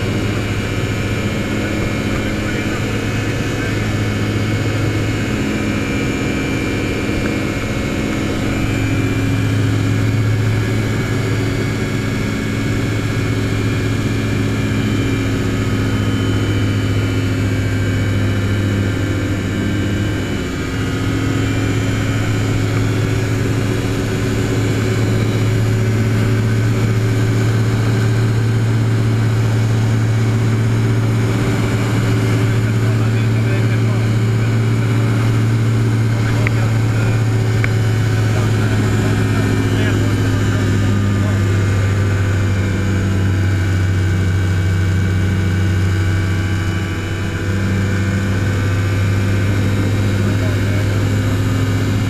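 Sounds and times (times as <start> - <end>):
aircraft engine and propeller droning: 0.0 - 52.0.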